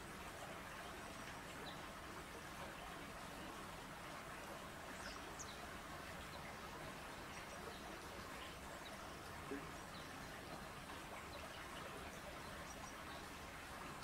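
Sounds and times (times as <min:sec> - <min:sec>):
outdoor ambience hiss: 0:00.0 - 0:14.0.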